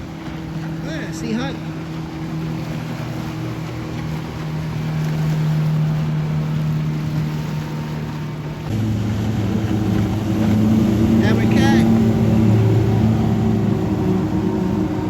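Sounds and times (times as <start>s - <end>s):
deeper boat engine: 0.0s - 15.0s
motorboat engines running: 0.0s - 15.0s
water noise: 0.0s - 15.0s
wind: 0.0s - 15.0s.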